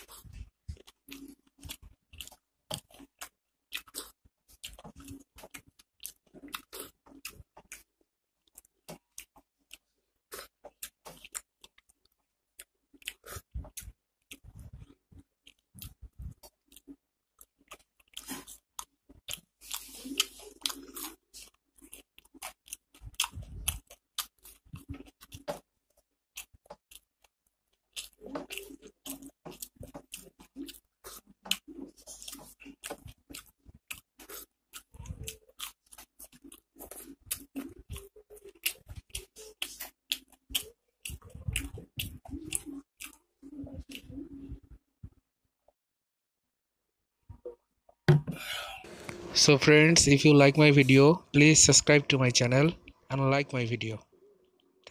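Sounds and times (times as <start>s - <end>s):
man chewing with wet smacks: 0.0s - 45.2s, 54.5s - 54.9s.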